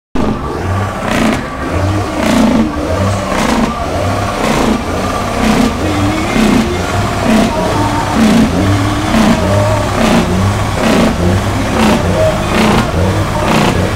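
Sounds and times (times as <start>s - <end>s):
car engine revving: 0.1s - 13.9s.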